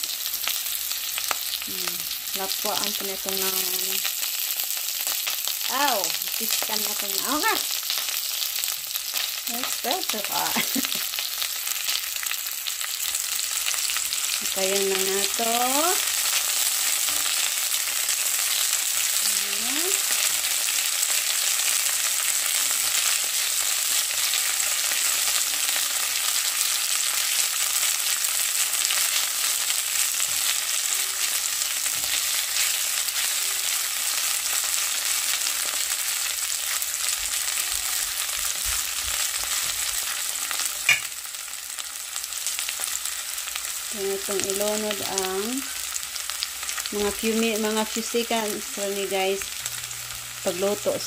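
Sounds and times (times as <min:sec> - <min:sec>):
onions sizzling in oil: 0:00.0 - 0:51.0.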